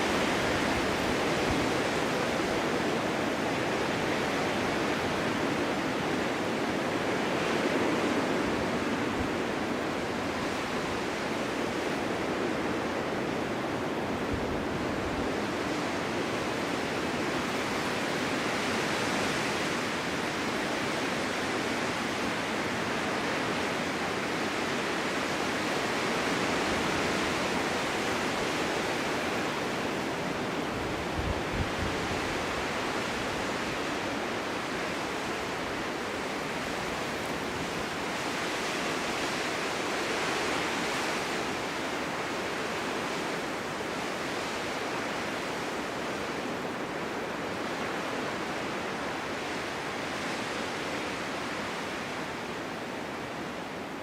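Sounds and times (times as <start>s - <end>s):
wind blowing: 0.0s - 54.0s.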